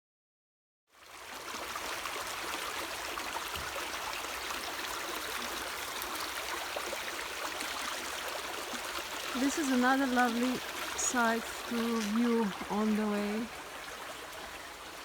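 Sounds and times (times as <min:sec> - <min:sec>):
running stream water: 0:00.9 - 0:15.0.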